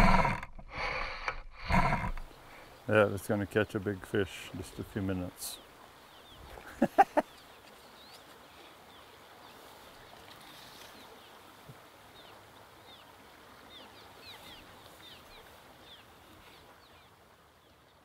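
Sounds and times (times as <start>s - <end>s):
faint outdoor hiss: 0.0s - 18.0s
small birds chirping: 1.7s - 11.4s, 12.2s - 18.0s.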